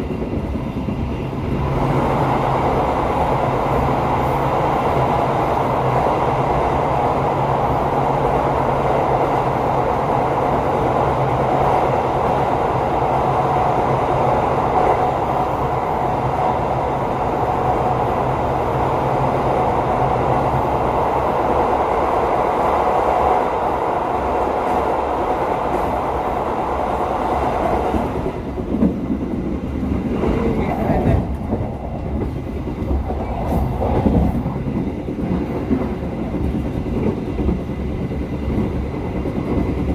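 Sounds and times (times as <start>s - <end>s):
passenger train rumbling on rails: 0.0s - 39.9s.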